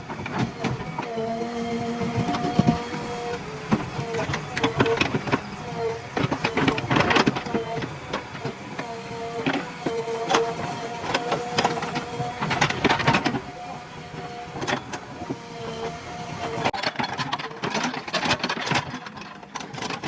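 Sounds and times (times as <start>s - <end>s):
diesel engine and hydraulic whine: 0.0s - 16.8s.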